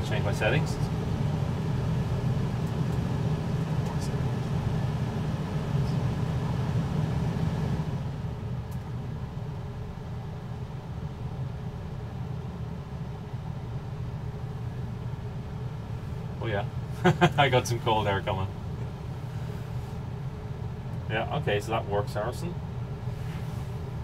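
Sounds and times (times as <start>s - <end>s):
air conditioner blower running: 0.0s - 24.0s.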